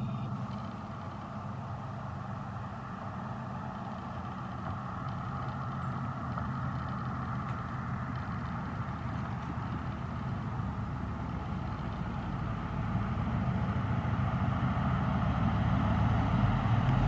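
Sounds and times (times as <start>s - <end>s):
pickup engine exhaust rumble: 0.0s - 17.0s.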